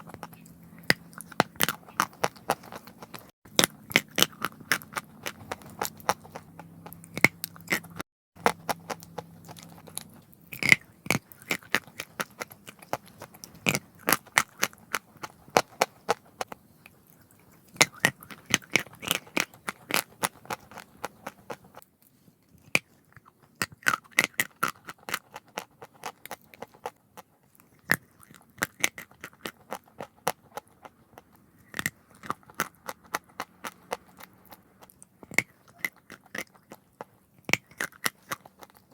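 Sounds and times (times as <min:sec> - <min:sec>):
crunching and chewing chalk: 0:00.0 - 0:38.9.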